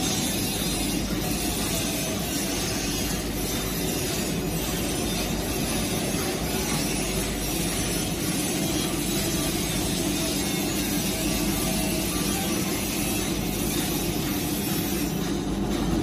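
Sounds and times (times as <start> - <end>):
industrial washer rushing: 0.0 - 16.0.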